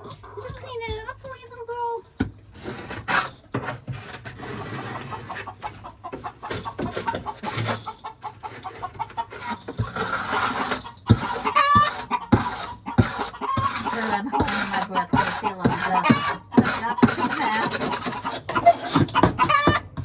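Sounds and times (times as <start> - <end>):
coop bedding being scraped: 0.0 - 20.0
hen clucking: 0.0 - 20.0.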